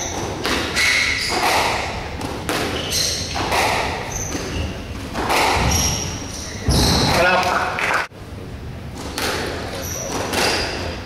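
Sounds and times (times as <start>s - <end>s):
squash ball hits: 0.0s - 7.5s, 9.0s - 10.9s.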